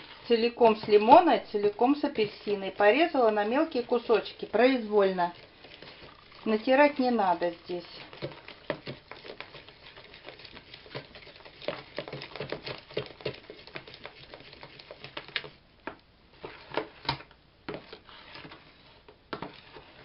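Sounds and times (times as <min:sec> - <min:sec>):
spoon stirring in plastic bowl: 0:00.0 - 0:20.0.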